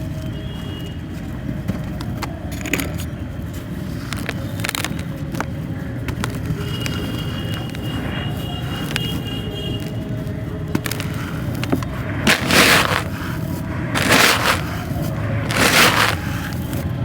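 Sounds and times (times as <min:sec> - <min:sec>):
crumbling texture crackling: 0:02.9 - 0:17.0.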